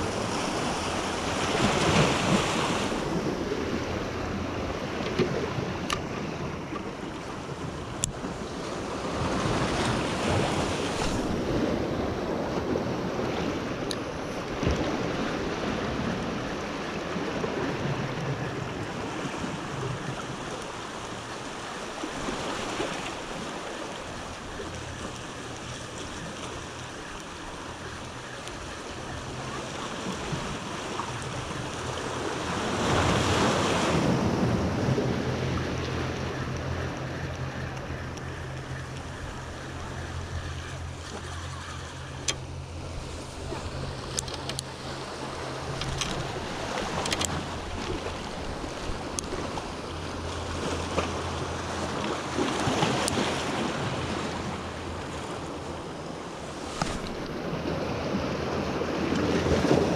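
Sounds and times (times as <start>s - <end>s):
ocean surf breaking over rocks: 0.0s - 59.9s.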